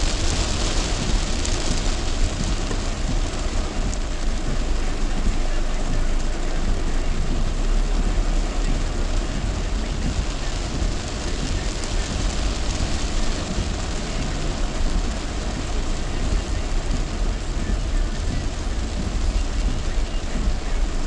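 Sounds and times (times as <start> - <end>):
heavy rain drumming on car: 0.0 - 21.0
road and engine rumble: 0.0 - 21.0.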